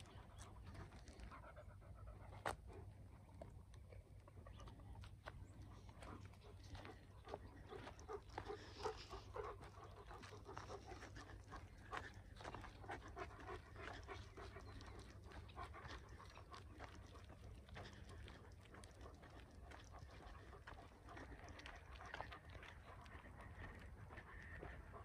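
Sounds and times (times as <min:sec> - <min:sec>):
dog panting: 0:00.0 - 0:25.0
footsteps on dirt road: 0:00.0 - 0:25.0.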